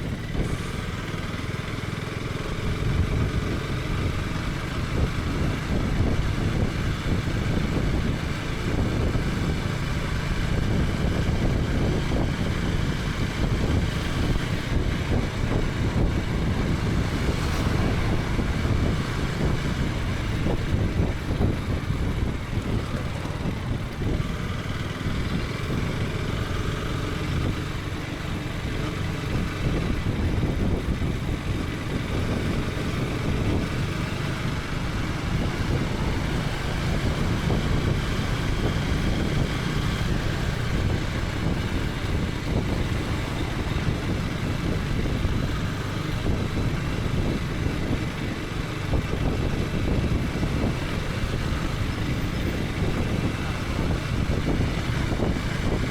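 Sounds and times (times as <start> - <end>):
motorcycle engine running: 0.0 - 55.9
wind and road noise: 0.0 - 55.9.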